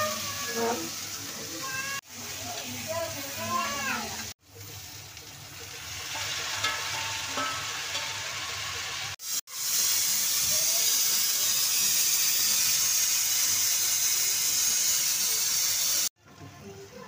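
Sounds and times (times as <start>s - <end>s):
potatoes sizzling in hot oil: 0.0s - 16.1s.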